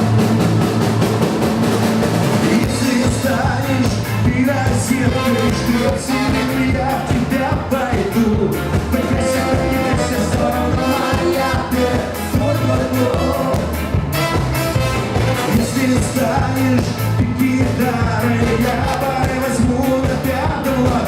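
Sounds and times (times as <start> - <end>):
live band playing pop-rock: 0.0 - 21.0
person singing: 2.4 - 14.5, 15.3 - 21.0.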